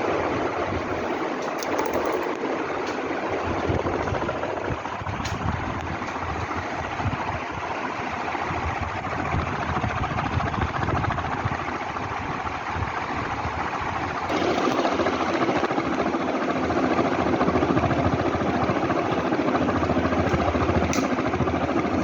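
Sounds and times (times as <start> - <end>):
ceiling fan running: 0.0 - 22.0.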